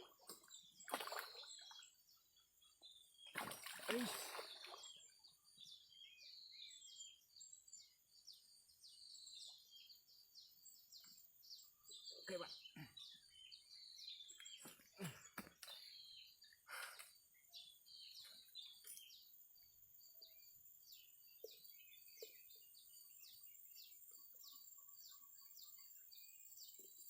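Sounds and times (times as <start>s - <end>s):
small bird chirping: 0.0s - 27.0s.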